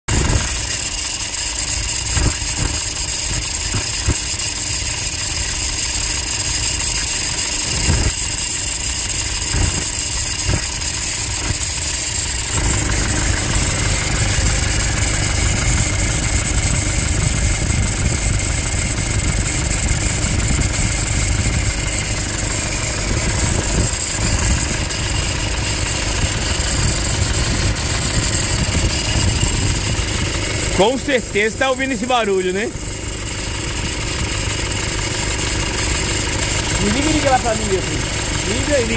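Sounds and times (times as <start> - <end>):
diesel engine idling: 0.2 - 38.9.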